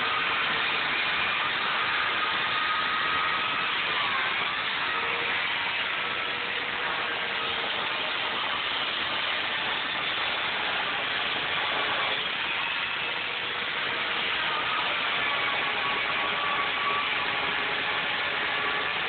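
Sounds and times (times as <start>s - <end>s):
electric chainsaw cutting foam: 0.0s - 19.0s.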